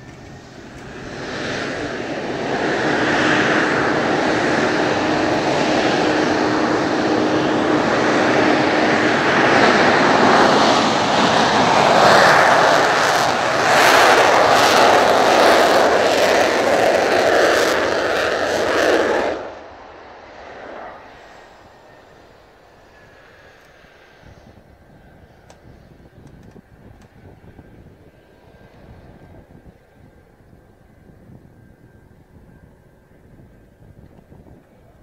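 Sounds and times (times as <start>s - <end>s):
jet engines taxiing: 0.0s - 35.0s.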